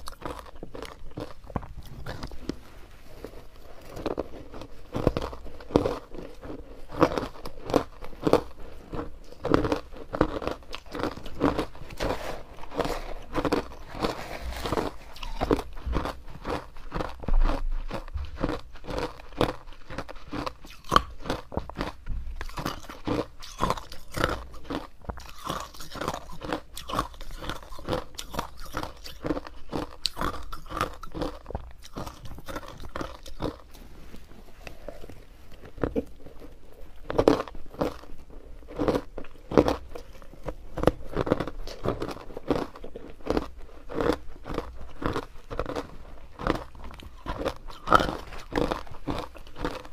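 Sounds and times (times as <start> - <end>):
person crunching ice: 0.0 - 49.9.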